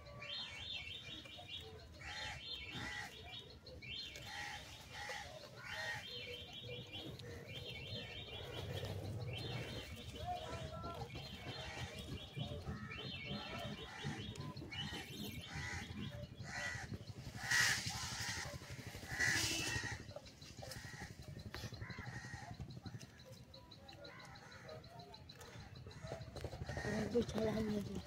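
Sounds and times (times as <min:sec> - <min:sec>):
birds chirping and trilling: 0:00.0 - 0:28.0
harsh bird calls: 0:00.0 - 0:28.0.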